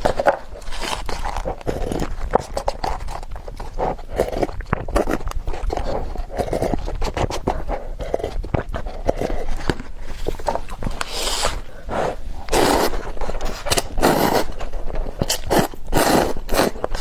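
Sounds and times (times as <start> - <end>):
mouth clicks chewing noodles: 0.0 - 17.0
slurping noodles: 0.0 - 17.0.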